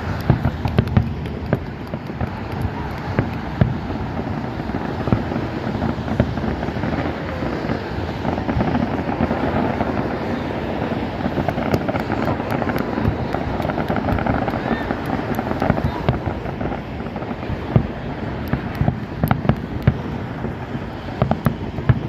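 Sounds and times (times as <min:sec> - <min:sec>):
crackling fireworks: 0:00.0 - 0:22.0
distant firework bursts rumbling: 0:00.0 - 0:22.0
sharp firework pops: 0:00.0 - 0:22.0.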